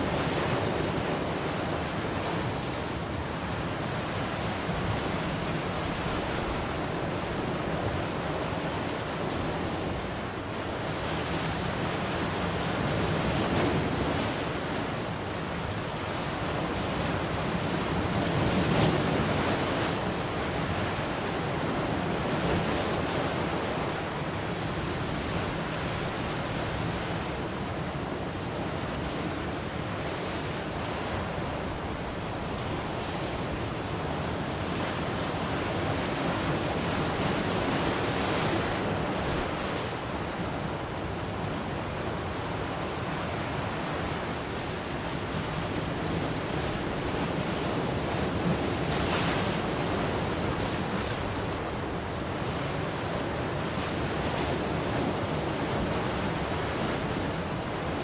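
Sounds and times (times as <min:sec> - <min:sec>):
ocean waves washing onto shore: 0:00.0 - 0:58.0.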